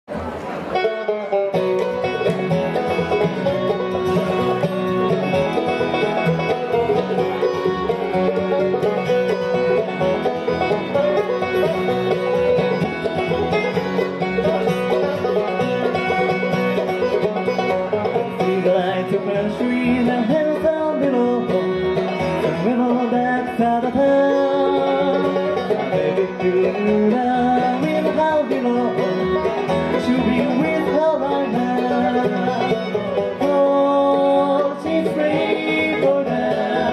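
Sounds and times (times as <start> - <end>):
acoustic guitar: 0.1 - 36.9
banjo: 0.1 - 36.9
fiddle: 0.1 - 36.9
mandolin: 0.1 - 36.9
upright bass: 0.1 - 36.9.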